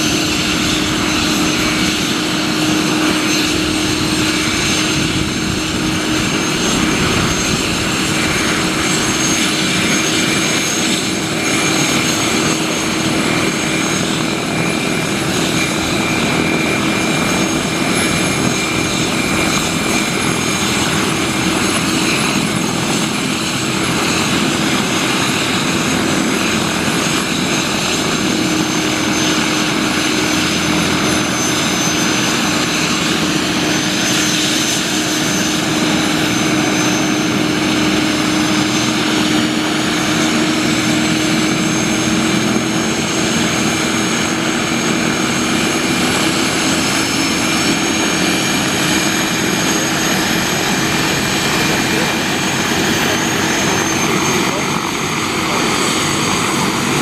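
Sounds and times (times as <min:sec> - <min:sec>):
helicopter turbine whine: 0:00.0 - 0:57.0.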